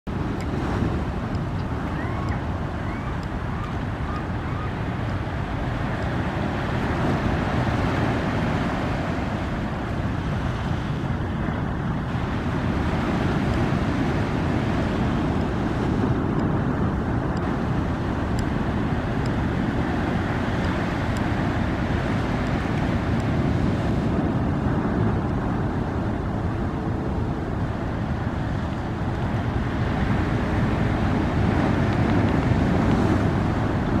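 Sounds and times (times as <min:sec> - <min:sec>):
wind noise on microphone: 0:00.0 - 0:34.0
small waves on sandy beach: 0:00.1 - 0:34.0.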